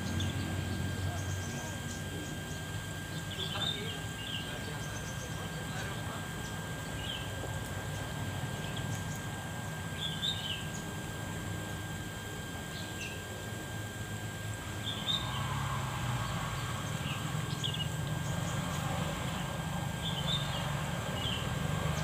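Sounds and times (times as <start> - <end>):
outdoor background murmur: 0.0 - 22.0.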